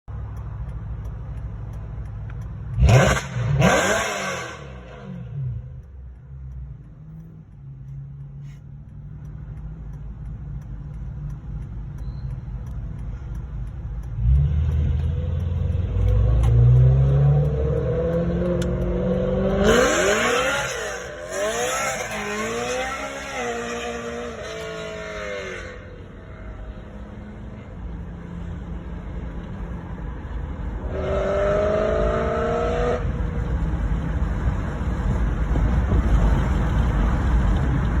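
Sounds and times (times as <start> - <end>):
engine rumble: 0.0 - 38.0
car engine revving: 0.1 - 38.0.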